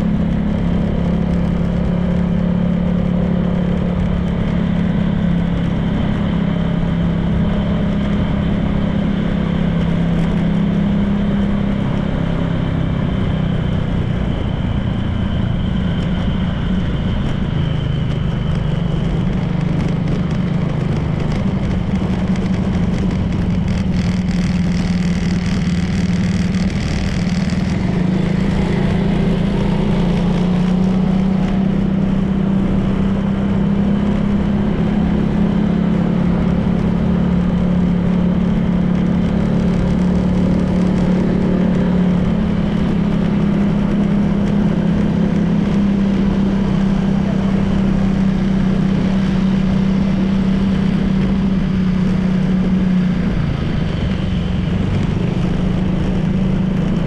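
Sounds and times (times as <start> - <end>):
scooter engine running: 0.0 - 57.0
wind and road noise: 0.0 - 57.0.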